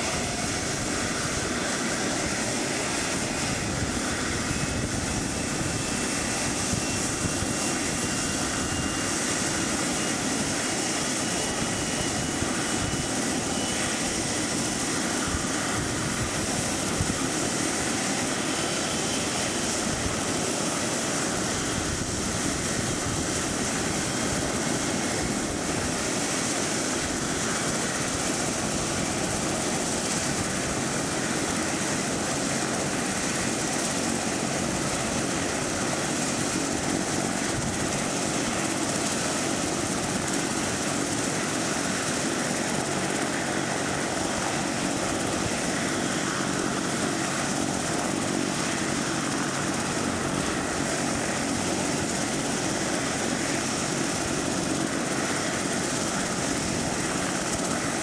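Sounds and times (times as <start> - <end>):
helicopter rotor rumble: 0.0 - 58.0
helicopter turbine whine: 0.0 - 58.0.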